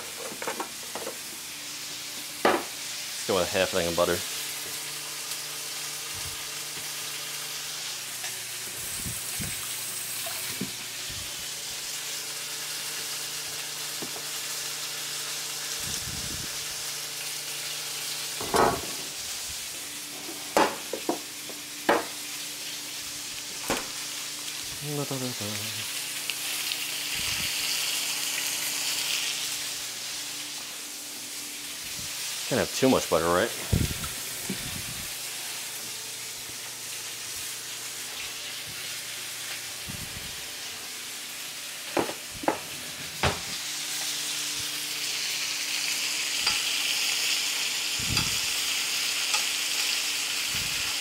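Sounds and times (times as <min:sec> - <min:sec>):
meat sizzling in a frying pan: 0:00.0 - 0:51.0.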